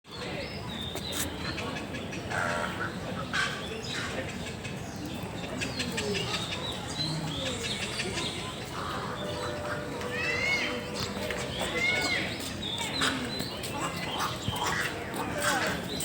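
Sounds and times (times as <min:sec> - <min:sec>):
birds chirping: 0:00.1 - 0:16.0
busy background noise: 0:00.1 - 0:16.0.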